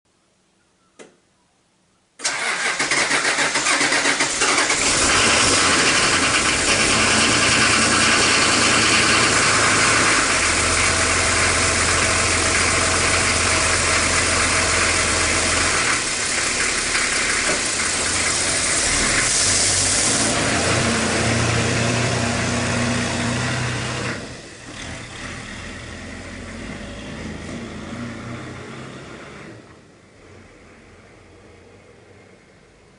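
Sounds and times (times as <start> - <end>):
diesel engine starting and idling: 2.2 - 32.2
vehicle driving off: 2.2 - 32.2.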